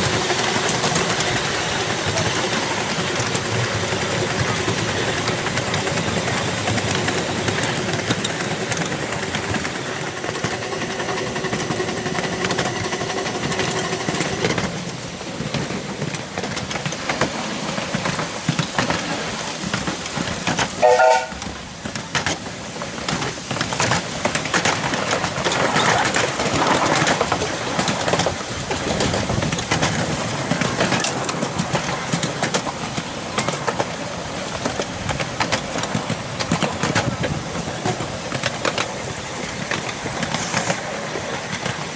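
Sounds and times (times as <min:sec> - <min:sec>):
miniature steam train running: 0:00.0 - 0:41.9
wheels clicking over rail joints: 0:00.0 - 0:41.9.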